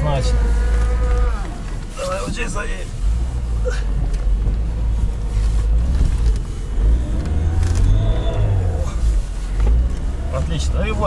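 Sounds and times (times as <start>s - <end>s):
car engine rumbling: 0.0s - 11.0s
engine whine: 0.0s - 11.0s.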